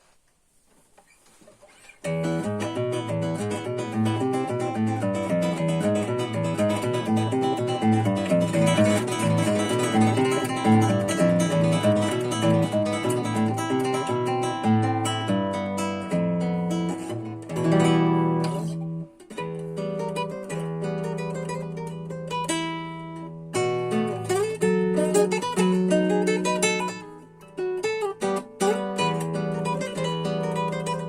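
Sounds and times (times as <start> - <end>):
fingerpicked classical guitar: 0.8 - 31.0.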